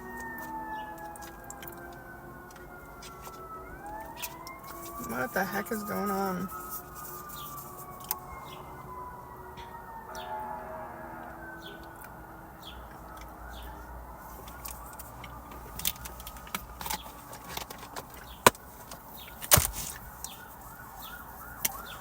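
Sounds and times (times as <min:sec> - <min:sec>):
emergency siren wailing: 0:00.0 - 0:22.0.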